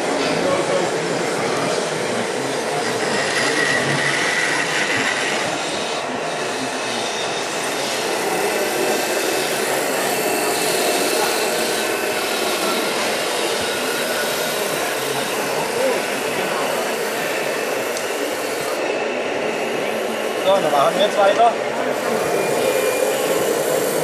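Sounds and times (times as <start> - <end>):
model trucks running: 0.0 - 24.0
faint high whine: 1.6 - 24.0.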